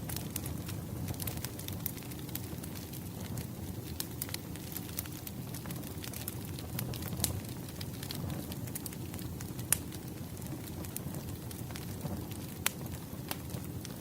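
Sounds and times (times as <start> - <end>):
logs crackling and popping: 0.0 - 14.0
wood fire flames rushing: 0.0 - 14.0.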